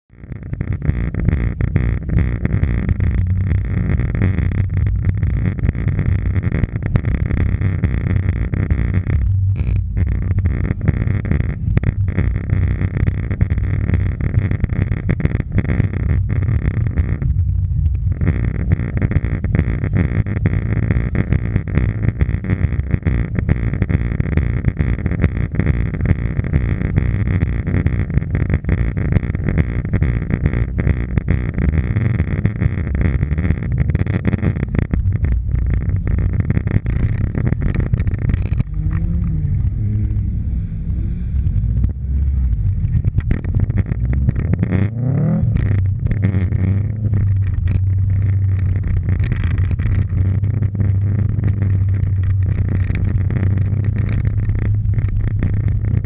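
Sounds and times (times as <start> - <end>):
car engine exhaust revving: 0.0 - 56.0.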